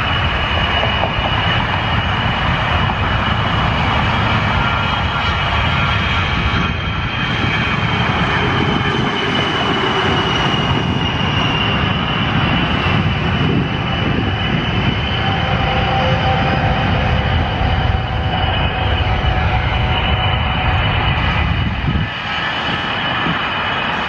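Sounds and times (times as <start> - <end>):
jet engines roaring with whine: 0.0 - 24.0.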